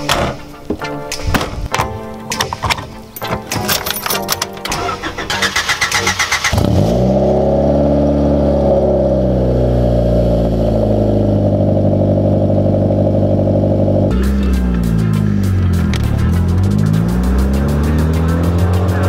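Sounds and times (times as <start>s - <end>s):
car engine cranking and idling: 0.0s - 19.0s.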